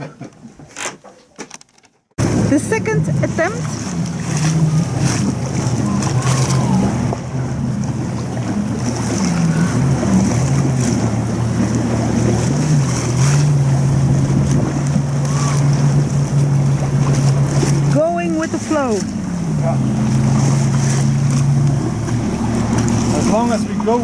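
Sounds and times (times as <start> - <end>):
water rushing around hull: 0.0 - 24.0
wind: 0.0 - 24.0
boat engine droning: 1.5 - 24.0.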